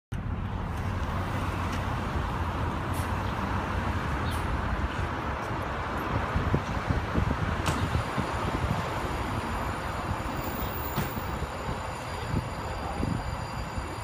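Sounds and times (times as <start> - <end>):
street traffic rumble: 0.1 - 14.0.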